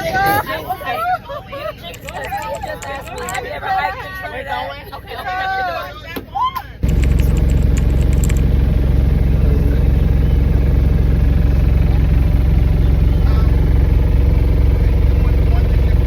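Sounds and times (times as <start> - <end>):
minibus engine droning: 0.0 - 16.0.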